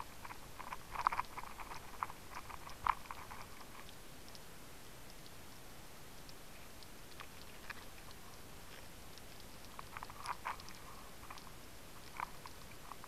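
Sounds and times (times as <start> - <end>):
underwater clicks and crackles: 0.0 - 5.6, 6.2 - 13.0
faint underwater hiss: 1.3 - 13.0.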